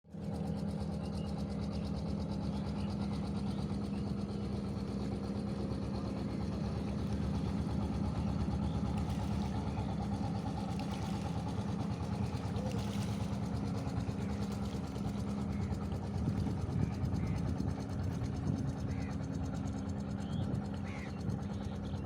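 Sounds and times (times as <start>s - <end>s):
engine running: 0.1s - 22.0s.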